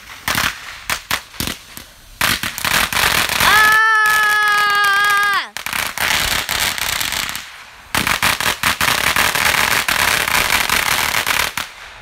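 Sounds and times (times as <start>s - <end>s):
firework popping and crackling: 0.0s - 12.0s.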